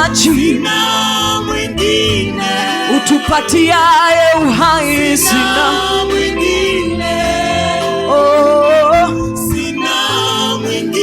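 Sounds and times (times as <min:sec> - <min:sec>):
instrumental backing with bass: 0:00.0 - 0:11.0
person singing with vibrato: 0:00.0 - 0:11.0.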